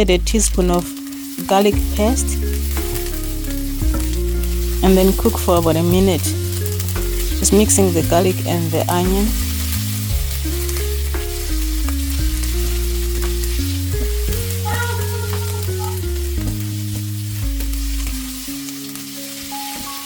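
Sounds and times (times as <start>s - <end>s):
background music with bass line: 0.0s - 1.1s, 1.7s - 18.9s
onion and garlic sizzling in oil: 0.0s - 20.0s
stirring in a pan: 0.0s - 20.0s.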